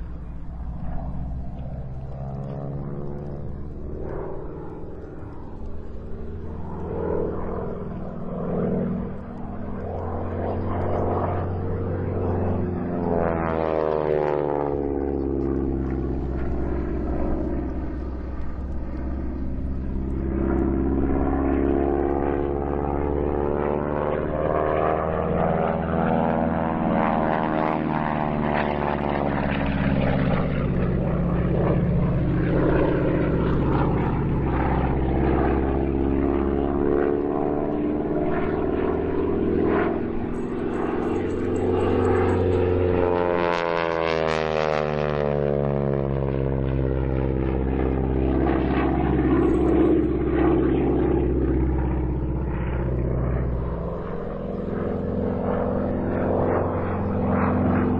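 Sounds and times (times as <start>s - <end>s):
propeller plane radial engine: 0.0s - 57.9s.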